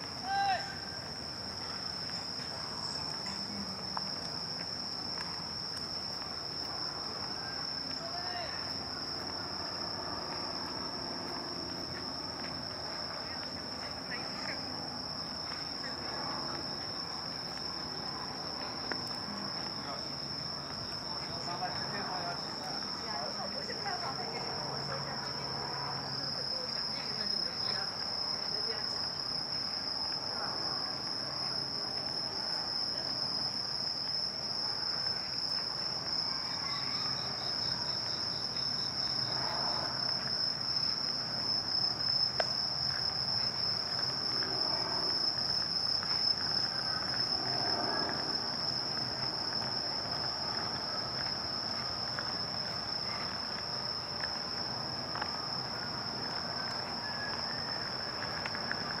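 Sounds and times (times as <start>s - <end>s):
crickets trilling: 0.0s - 59.0s
faint city hum: 0.0s - 59.0s
insect rapid pulsing call: 0.0s - 59.0s.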